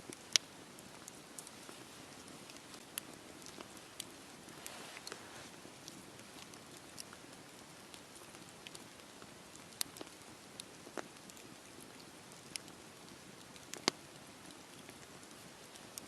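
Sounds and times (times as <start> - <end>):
wood crackling and popping: 0.0 - 16.0
campfire hissing: 0.1 - 16.0.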